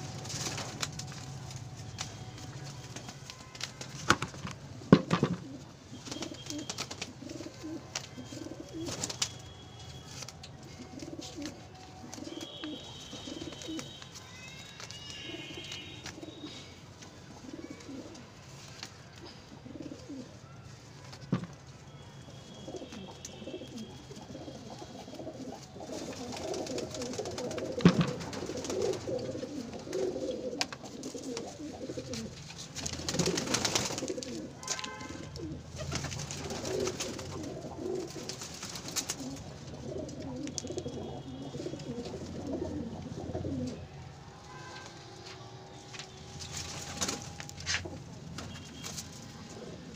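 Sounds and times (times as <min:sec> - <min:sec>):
pigeons cooing: 0:04.0 - 0:20.6, 0:22.2 - 0:44.8, 0:46.3 - 0:49.9.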